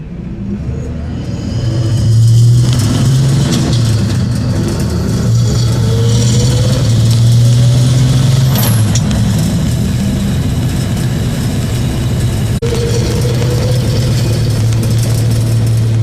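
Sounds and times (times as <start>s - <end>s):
pickup truck engine running: 1.5s - 16.0s.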